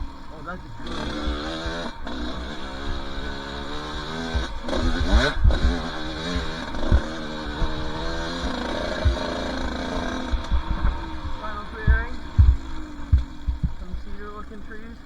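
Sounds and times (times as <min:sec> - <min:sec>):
dirt bike engine revving: 0:00.0 - 0:15.0
low thuds: 0:00.0 - 0:15.0.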